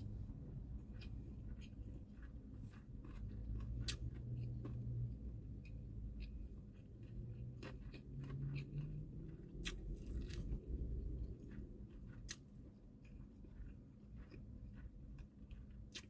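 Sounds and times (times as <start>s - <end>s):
chewing with wet mouth sounds: 0.0s - 16.0s.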